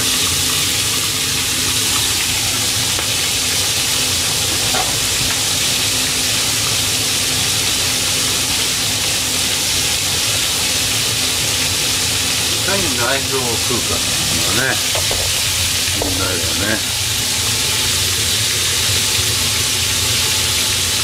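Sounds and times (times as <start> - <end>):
hot oil sizzling: 0.0 - 21.0.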